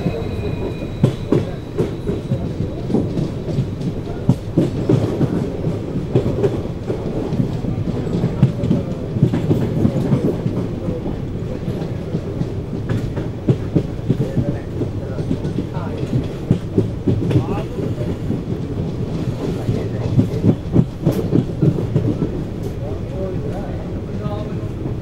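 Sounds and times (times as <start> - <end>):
train wheels clacking over rail joints: 0.0 - 23.6
train low rumble: 0.0 - 25.0.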